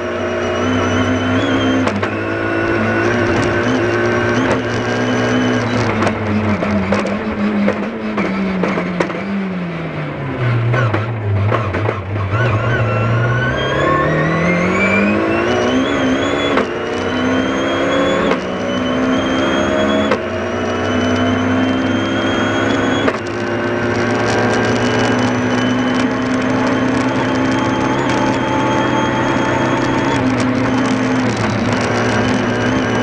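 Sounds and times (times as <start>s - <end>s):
rally car engine accelerating: 0.0s - 33.0s.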